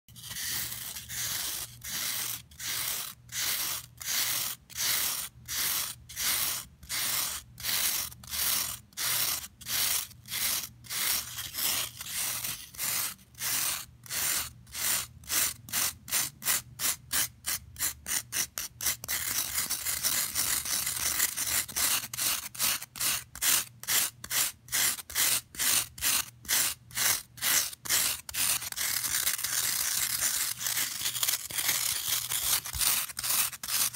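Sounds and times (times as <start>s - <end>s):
fingernails scratching floral foam: 0.2s - 33.9s.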